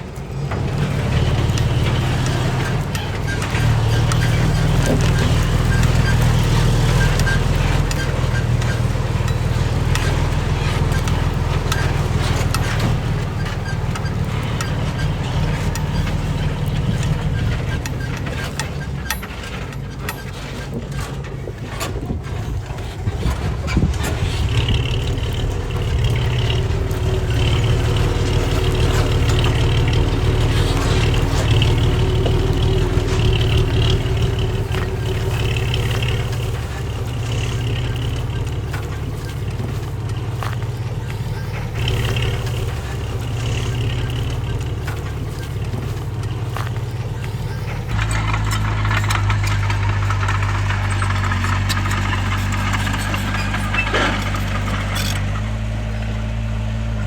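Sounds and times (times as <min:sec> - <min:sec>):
diesel machinery engine running: 0:00.0 - 0:57.0
metal clanks: 0:00.0 - 0:57.0.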